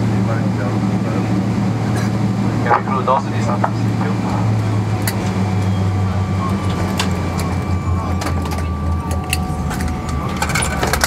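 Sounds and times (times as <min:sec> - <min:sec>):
airliner cabin hum: 0:00.0 - 0:11.0
faint steady tones: 0:00.1 - 0:11.0.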